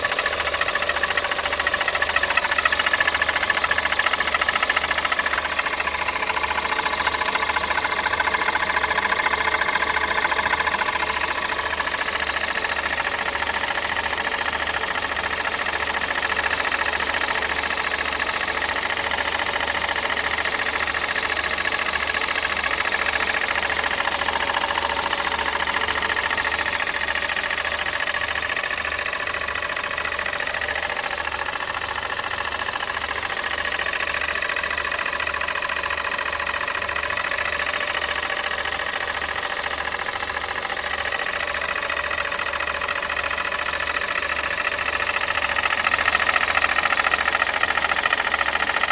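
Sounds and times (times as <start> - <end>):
car engine running: 0.0 - 48.9
engine knock and grinding: 0.0 - 48.9.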